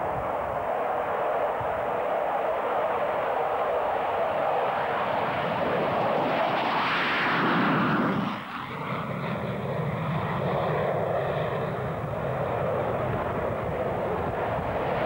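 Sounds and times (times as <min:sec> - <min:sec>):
distant jet noise with whine: 0:00.0 - 0:15.0
jet taking off: 0:00.0 - 0:15.0.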